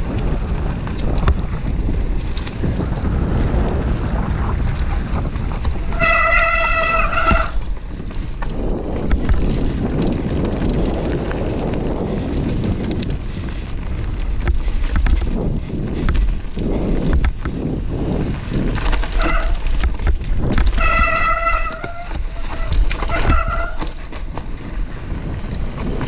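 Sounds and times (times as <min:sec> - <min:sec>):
bike clicks and rattles: 0:00.0 - 0:26.0
freewheel buzzing: 0:00.0 - 0:26.0
tyres rolling over dirt and stones: 0:00.0 - 0:26.0
wind rumbling on microphone: 0:00.0 - 0:26.0.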